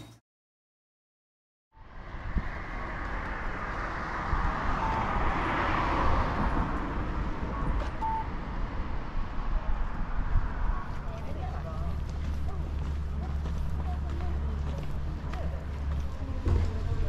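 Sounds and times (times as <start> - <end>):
road traffic noise: 1.8 - 17.0
vehicle passing: 1.8 - 17.0.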